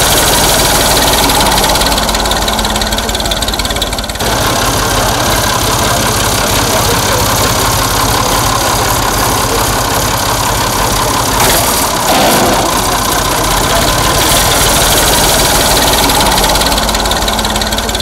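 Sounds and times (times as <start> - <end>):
tractor diesel engine running hard: 0.0 - 18.0.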